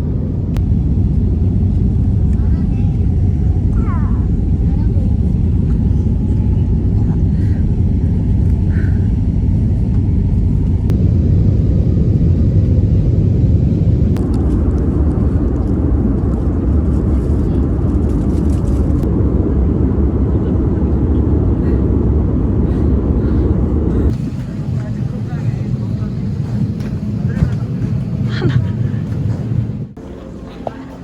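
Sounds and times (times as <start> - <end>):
vehicle rumbling in motion: 0.0 - 31.0.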